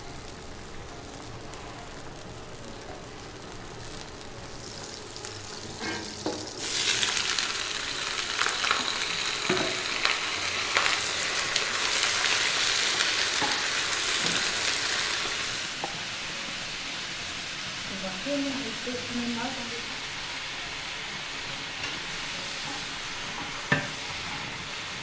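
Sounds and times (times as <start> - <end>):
vegetables sizzling in hot oil: 0.0 - 25.0.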